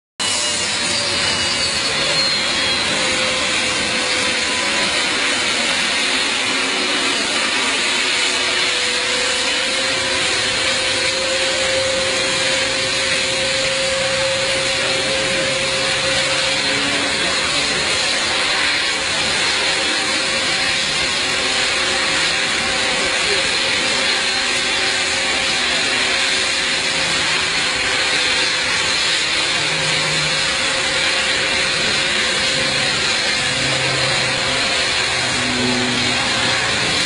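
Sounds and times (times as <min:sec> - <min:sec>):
airplane engine roar: 0:00.2 - 0:37.0.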